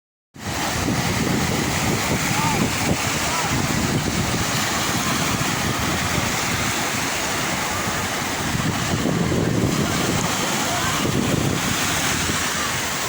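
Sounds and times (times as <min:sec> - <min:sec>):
sea waves washing: 0:00.4 - 0:13.0.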